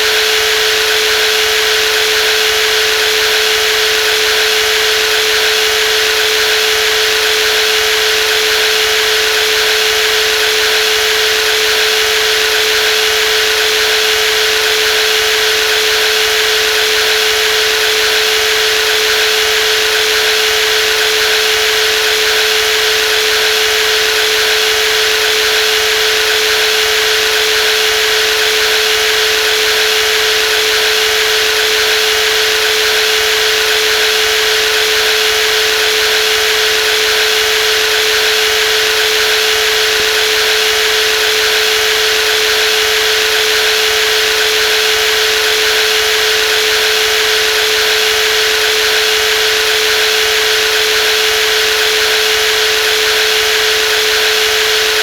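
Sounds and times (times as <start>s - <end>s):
jigsaw running: 0.2s - 55.0s.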